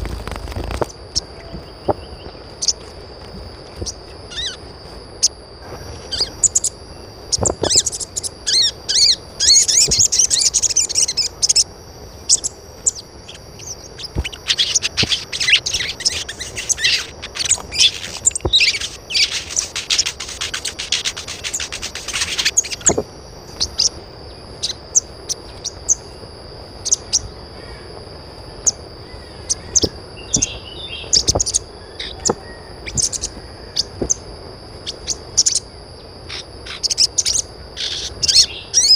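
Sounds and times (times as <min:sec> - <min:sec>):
birds chirping: 0:00.0 - 0:38.9
steady high-pitched hum: 0:00.0 - 0:38.9.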